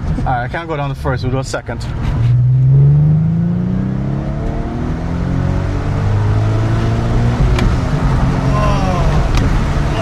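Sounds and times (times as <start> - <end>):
car engine accelerating: 1.7 - 10.0.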